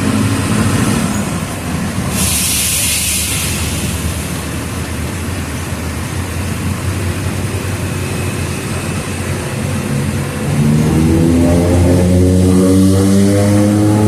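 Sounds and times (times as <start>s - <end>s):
bus diesel engine rumbling: 0.0s - 12.6s.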